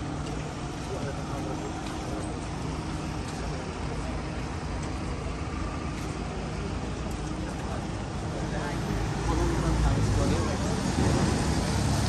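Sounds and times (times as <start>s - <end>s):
road noise hum: 0.0s - 12.0s.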